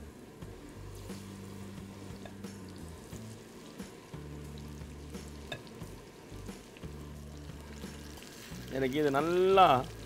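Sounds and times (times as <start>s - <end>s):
batter sizzling in hot oil: 0.0s - 10.0s
soft background music: 0.0s - 10.0s.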